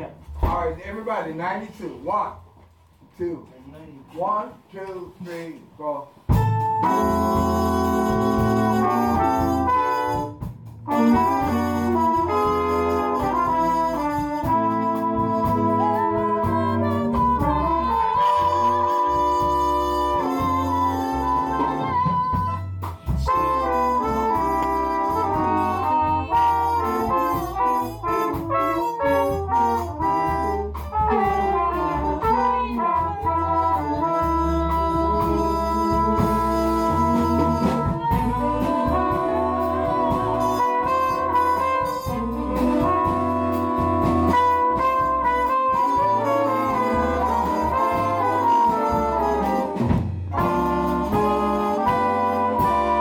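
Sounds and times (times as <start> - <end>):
jazz band playing bossa nova: 6.2 - 53.0.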